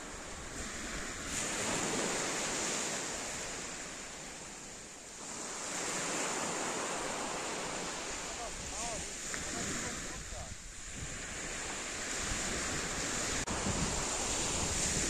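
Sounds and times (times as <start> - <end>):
waves washing up a pebble beach: 0.0 - 15.0.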